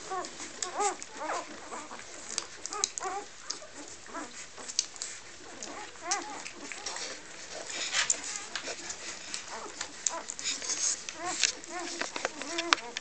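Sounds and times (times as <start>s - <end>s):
puppies whimpering: 0.0s - 13.0s
faint small clicks: 0.1s - 7.2s, 7.8s - 13.0s
brief rustle: 0.1s - 13.0s.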